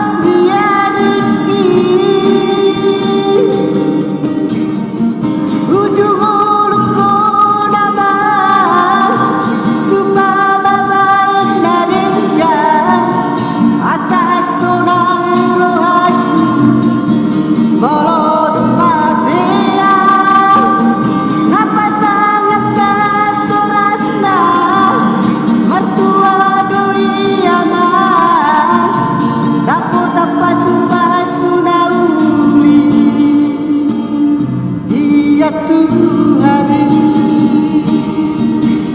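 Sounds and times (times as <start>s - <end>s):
guitar accompaniment: 0.0s - 38.9s.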